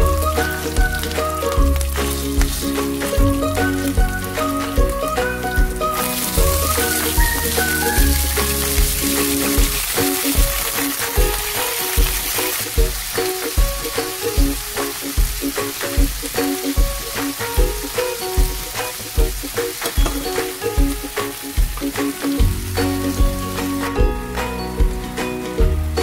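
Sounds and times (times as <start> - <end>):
octopus sizzling in frying pan: 0.0 - 24.7
background music with steady beat: 0.0 - 26.0.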